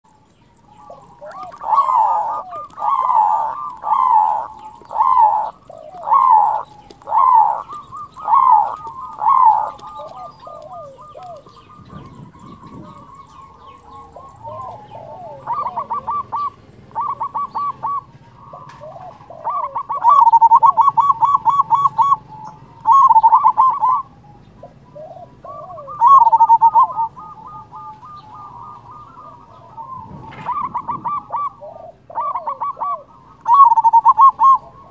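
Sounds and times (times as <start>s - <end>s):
dove cooing: 0.0s - 34.9s
rapid stuttering bird trills: 0.1s - 34.9s.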